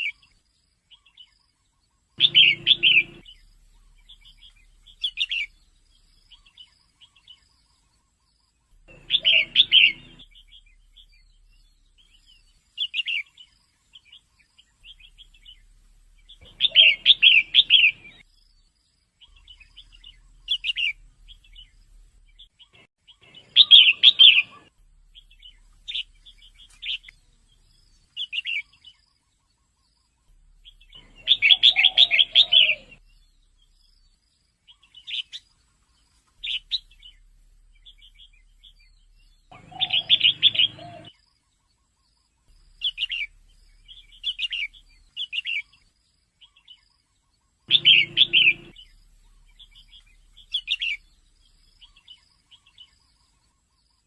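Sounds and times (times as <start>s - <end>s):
bird calling in chirpy phrases: 0.9s - 18.3s, 19.2s - 34.0s, 34.6s - 54.0s.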